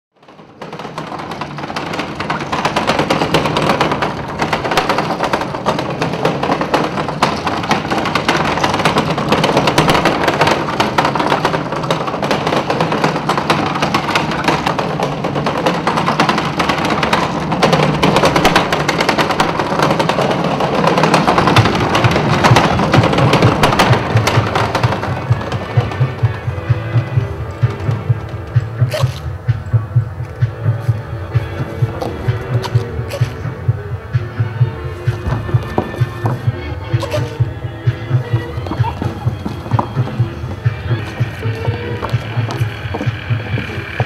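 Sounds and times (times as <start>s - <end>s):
rapid clattering and crackling: 0.2s - 44.0s
low pulsing beat: 1.4s - 44.0s.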